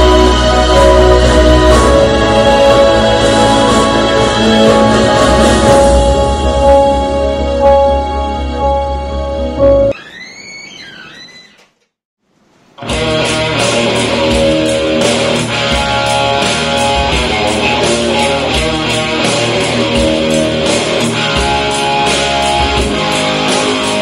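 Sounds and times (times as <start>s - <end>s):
rock music with guitar: 0.0s - 8.3s, 12.8s - 24.0s.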